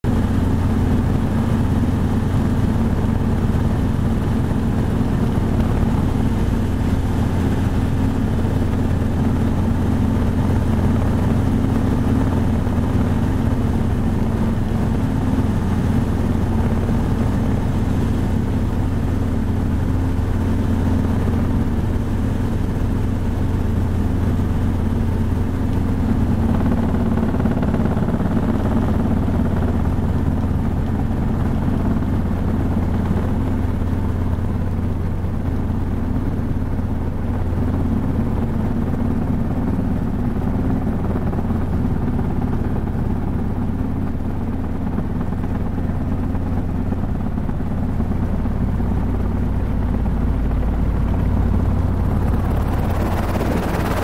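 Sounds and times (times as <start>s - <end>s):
helicopter rotor and engine: 0.0s - 54.0s.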